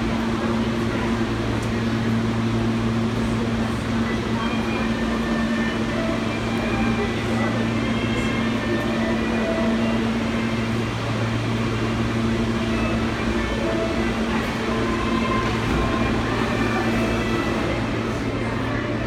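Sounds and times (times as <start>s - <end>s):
station rumble: 0.0s - 19.0s
subway train equipment hum: 0.0s - 19.0s.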